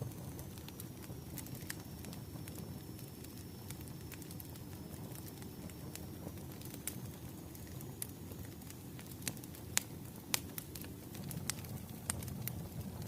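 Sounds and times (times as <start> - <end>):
logs crackling and popping: 0.0 - 13.0.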